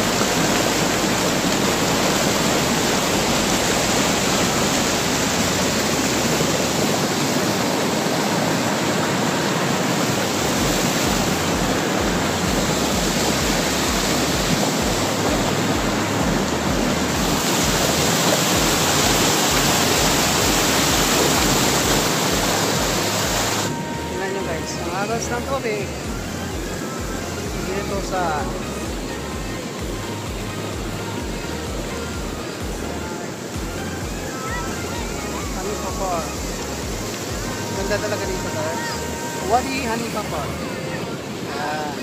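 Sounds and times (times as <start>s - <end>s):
water rushing over rocks: 0.0s - 42.0s.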